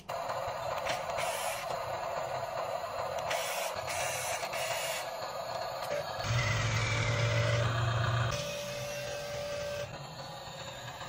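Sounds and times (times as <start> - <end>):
small electric motor whining: 0.1 - 11.0.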